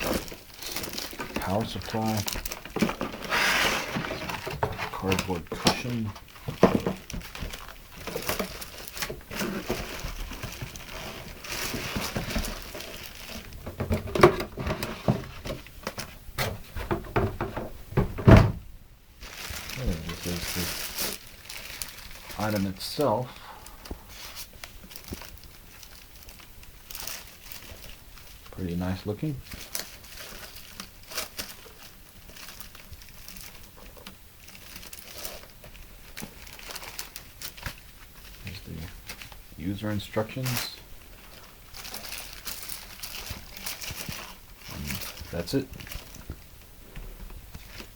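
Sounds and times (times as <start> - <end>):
cardboard rustling and scraping: 0.0 - 18.6, 19.2 - 47.9.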